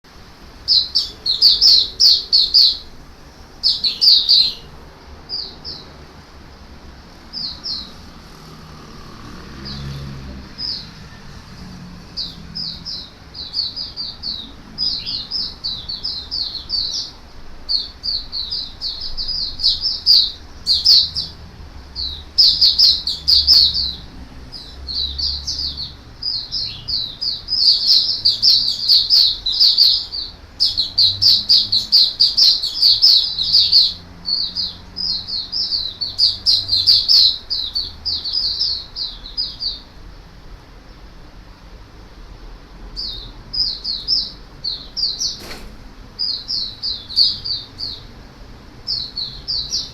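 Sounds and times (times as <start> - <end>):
bird twittering chirps: 0.1 - 6.1, 7.2 - 40.0, 43.0 - 49.9.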